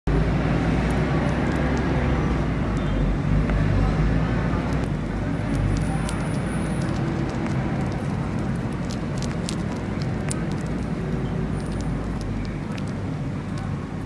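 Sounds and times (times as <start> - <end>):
animal crunching an insect: 0.1 - 2.9, 4.6 - 14.0
steady low rumble: 0.1 - 14.0.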